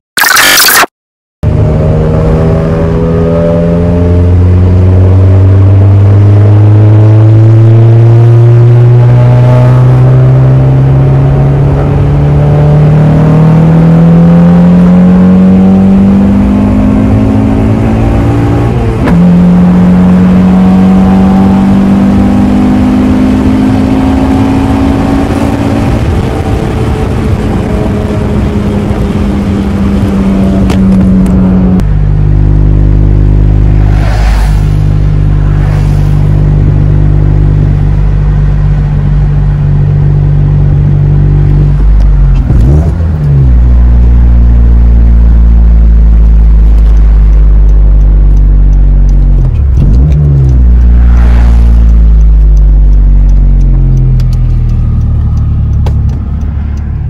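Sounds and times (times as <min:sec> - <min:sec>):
car engine heard from cabin: 0:00.2 - 0:57.0.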